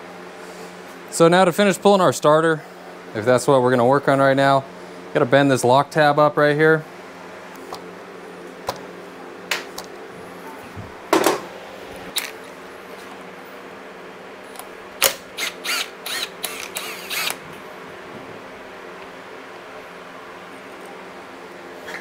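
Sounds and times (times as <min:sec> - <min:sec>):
fan hum: 0:00.0 - 0:22.0.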